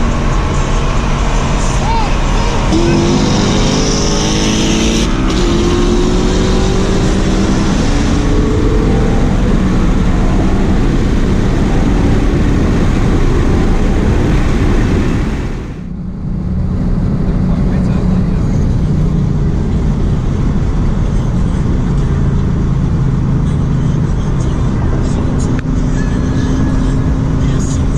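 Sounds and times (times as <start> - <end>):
car engine accelerating hard: 0.0 - 27.9
wind and road noise: 0.0 - 27.9.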